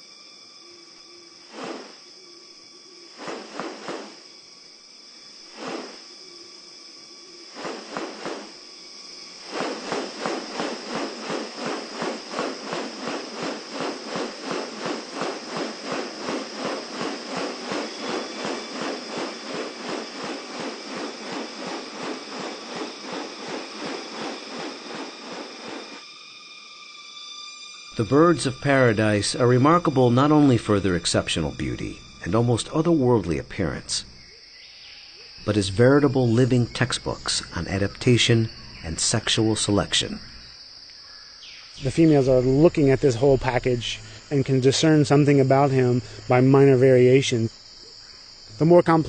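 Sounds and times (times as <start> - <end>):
shrill insect tones: 0.0 - 49.0.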